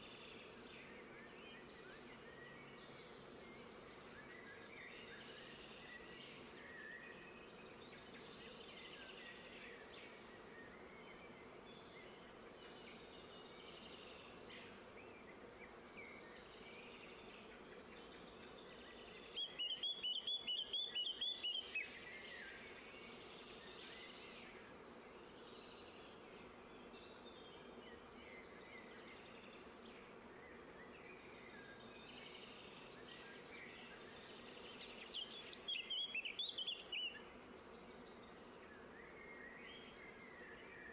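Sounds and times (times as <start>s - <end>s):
faint birdsong: 0.0s - 40.9s.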